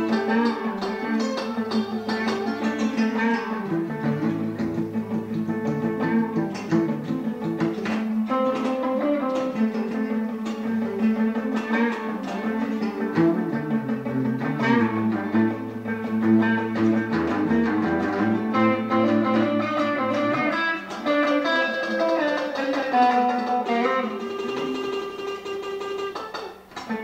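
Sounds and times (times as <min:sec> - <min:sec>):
electric and acoustic guitars jamming: 0:00.0 - 0:27.0.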